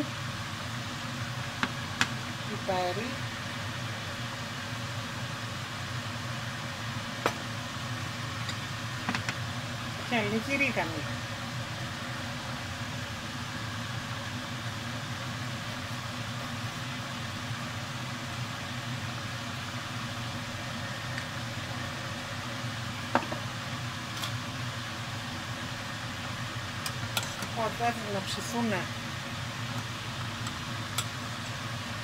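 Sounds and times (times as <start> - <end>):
broth boiling: 0.0 - 32.0
low steady hum: 0.0 - 32.0.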